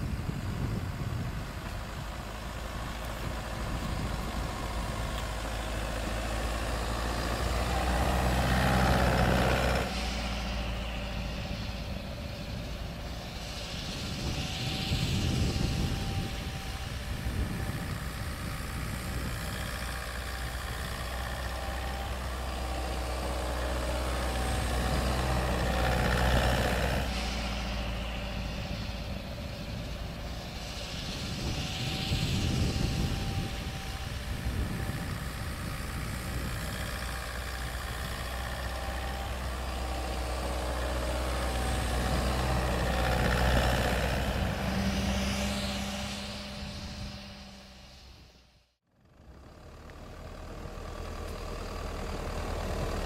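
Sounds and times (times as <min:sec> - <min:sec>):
vehicle engine running off-road: 0:00.0 - 0:53.0.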